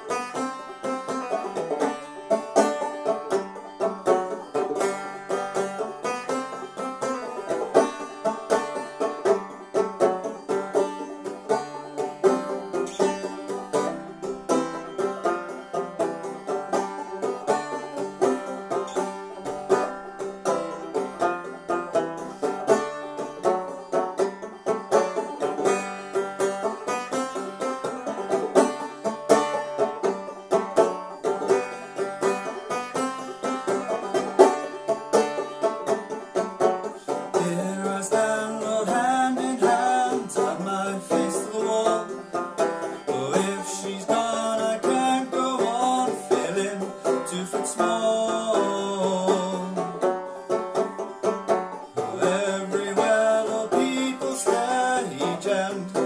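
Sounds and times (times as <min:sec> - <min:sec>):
banjo playing: 0:00.0 - 0:56.0.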